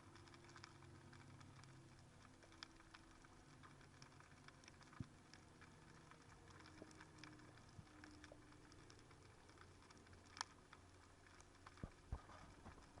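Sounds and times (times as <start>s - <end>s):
faint underwater clicks: 0.0s - 13.0s.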